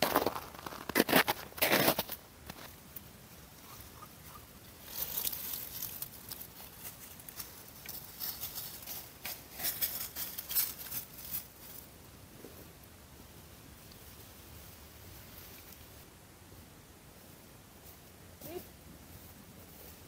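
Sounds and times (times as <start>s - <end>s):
dry leaves rustling underfoot: 0.0s - 12.8s, 13.7s - 16.1s, 17.1s - 20.0s.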